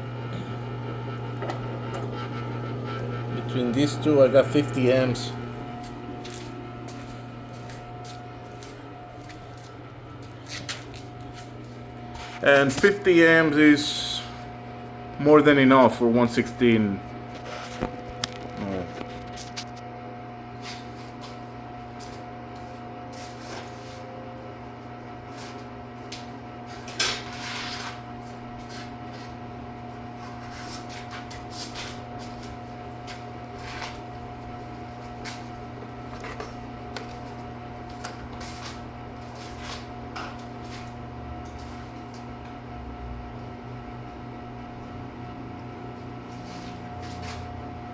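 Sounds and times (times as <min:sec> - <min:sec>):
welder transformer humming: 0:00.0 - 0:47.9.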